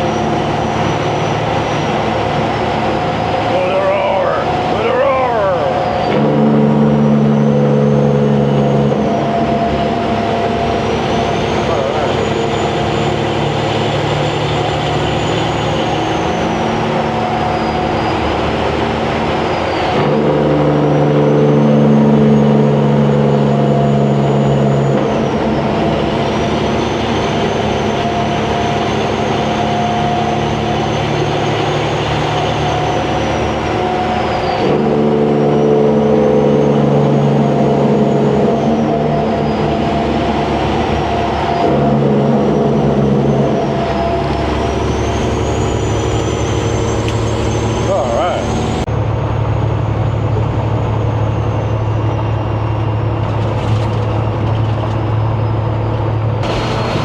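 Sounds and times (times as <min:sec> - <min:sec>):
diesel truck engine driving: 0:00.0 - 0:57.0.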